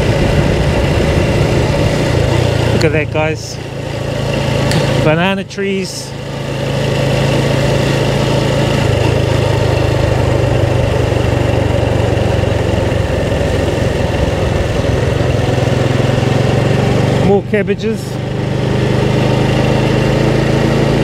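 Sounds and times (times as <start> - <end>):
motorbike engine running: 0.0 - 21.0
rushing air and road noise: 0.0 - 21.0.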